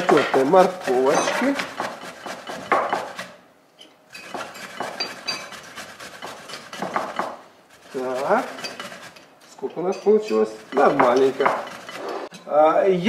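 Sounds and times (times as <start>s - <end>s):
carrot rasping on metal grater: 0.0s - 3.4s, 4.1s - 12.3s.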